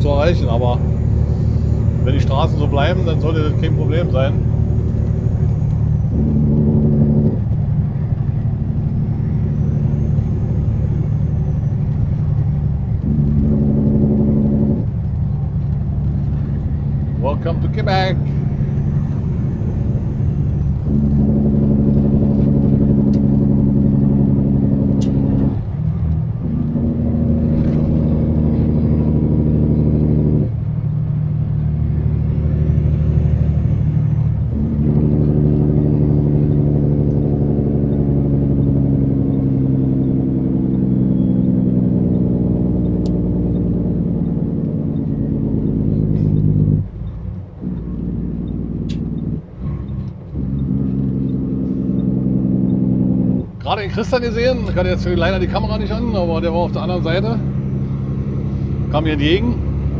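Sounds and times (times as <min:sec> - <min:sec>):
truck diesel engine droning: 0:00.0 - 0:59.9.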